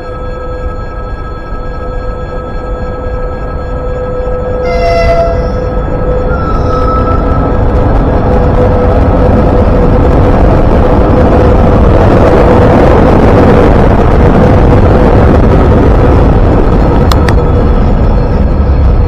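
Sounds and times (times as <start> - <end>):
train rumbling and whining: 0.0 - 19.0.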